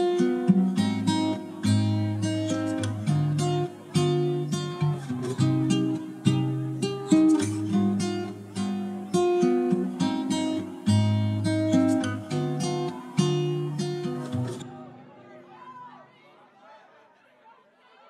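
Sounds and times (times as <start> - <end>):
acoustic guitar music: 0.0 - 15.4.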